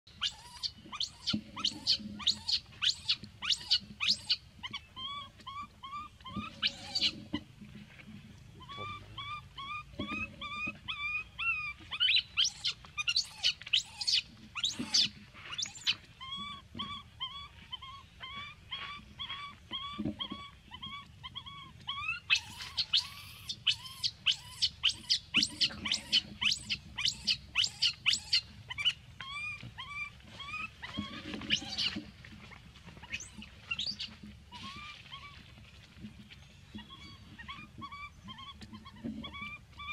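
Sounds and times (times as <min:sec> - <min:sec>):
baby monkey squealing and screaming: 0:00.1 - 0:07.2, 0:08.6 - 0:32.0, 0:33.0 - 0:35.4, 0:36.8 - 0:39.9.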